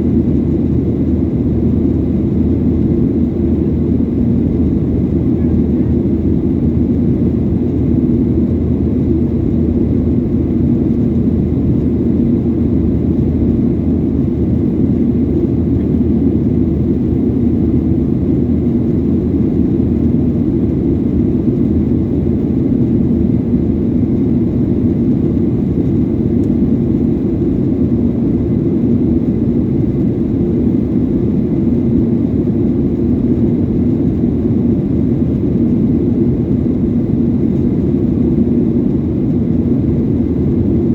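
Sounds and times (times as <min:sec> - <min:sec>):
jet engine cabin drone: 0:00.0 - 0:40.9.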